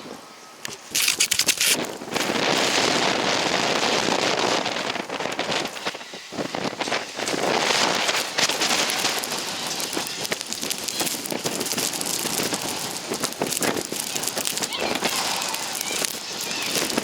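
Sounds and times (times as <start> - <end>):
blizzard wind on microphone: 0.0 - 17.0.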